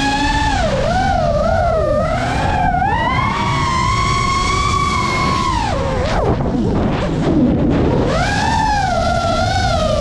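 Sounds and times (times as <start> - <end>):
drone motors whining: 0.0 - 10.0
wind and prop wash: 0.0 - 10.0.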